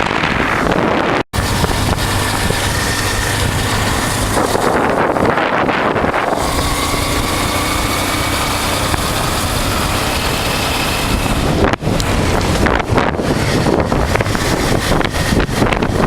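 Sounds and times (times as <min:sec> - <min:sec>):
motorcycle engine droning: 0:00.0 - 0:16.0
wind rushing over microphone: 0:00.0 - 0:16.0.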